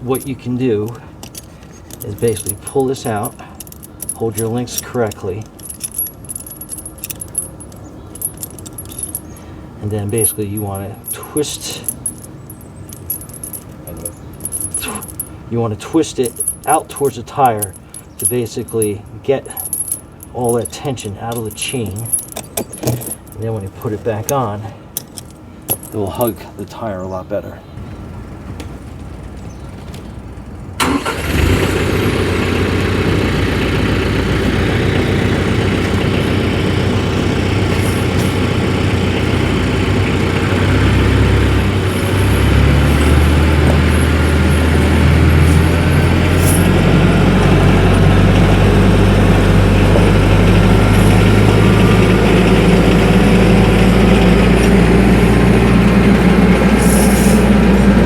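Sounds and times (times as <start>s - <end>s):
tractor diesel engine running: 0.0s - 26.3s, 28.0s - 58.0s.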